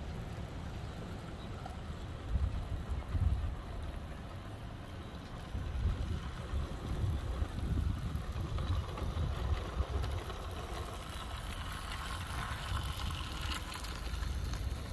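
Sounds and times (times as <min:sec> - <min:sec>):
model train rattling past: 0:00.0 - 0:14.9
wind buffeting microphone: 0:01.9 - 0:04.4, 0:05.0 - 0:14.9.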